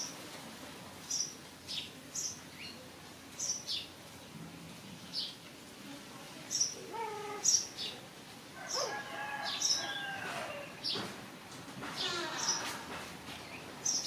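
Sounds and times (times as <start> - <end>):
small birds chirping: 1.0 - 11.1, 12.0 - 14.0.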